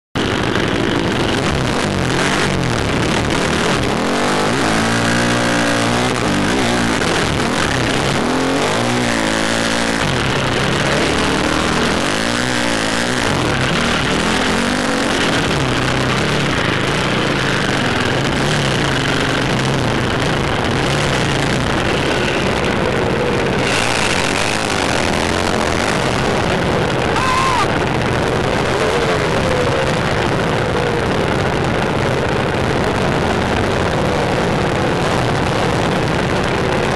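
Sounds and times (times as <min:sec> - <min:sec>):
dirt bike engine revving: 0:00.2 - 0:36.9
wind noise on microphone: 0:00.2 - 0:36.9.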